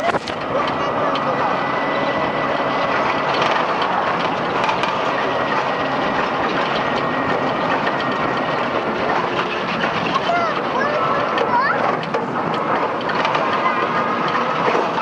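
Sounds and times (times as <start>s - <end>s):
vehicle ride rushing noise: 0.0s - 15.0s.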